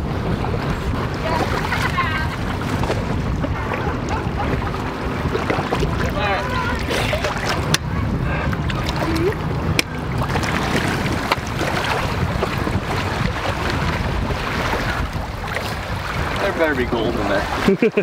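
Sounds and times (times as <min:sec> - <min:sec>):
wind buffeting microphone: 0:00.0 - 0:17.7
water splashing around wading legs: 0:00.4 - 0:18.0.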